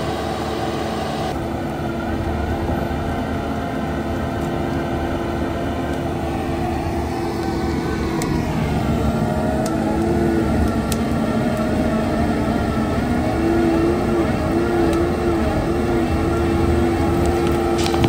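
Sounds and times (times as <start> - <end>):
hydraulic grinder whine: 0.0 - 18.0
loader engine rumble: 0.0 - 18.0.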